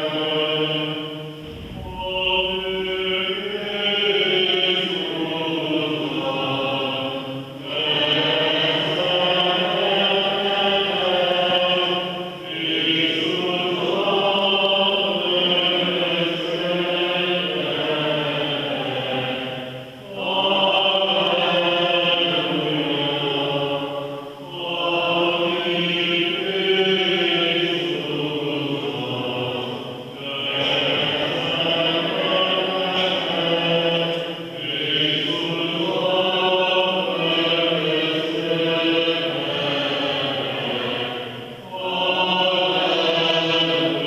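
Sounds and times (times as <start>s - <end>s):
voices singing liturgical chant: 0.0s - 44.0s.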